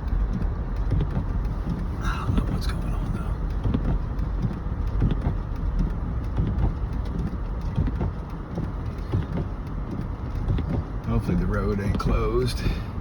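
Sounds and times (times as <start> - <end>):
car cabin rumble: 0.0 - 13.0
soft thumps: 0.3 - 11.1.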